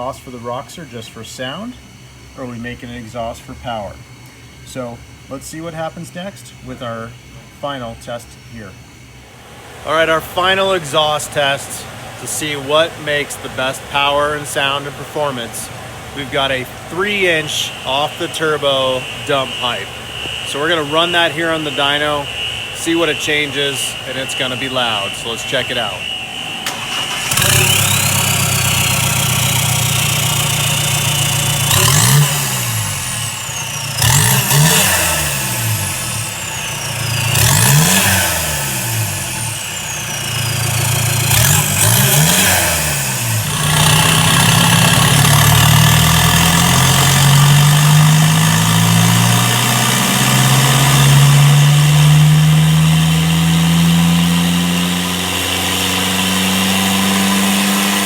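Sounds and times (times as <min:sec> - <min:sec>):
diesel engine starting and revving: 0:00.0 - 0:58.0
turbo whistle: 0:09.9 - 0:58.0.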